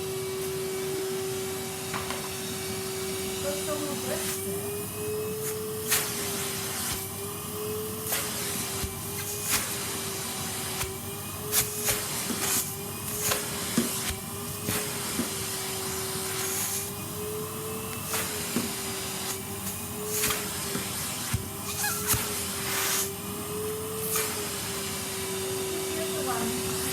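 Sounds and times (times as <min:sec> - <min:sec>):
vacuum cleaner motor whine: 0:00.0 - 0:26.9.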